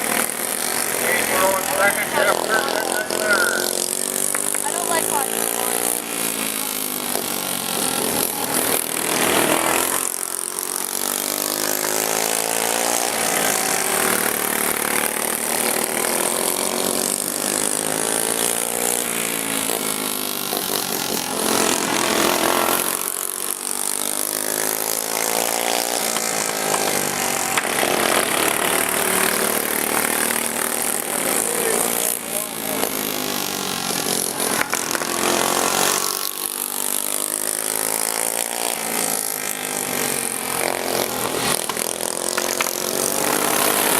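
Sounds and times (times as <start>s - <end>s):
racing lawn mower engines: 0.0s - 43.9s.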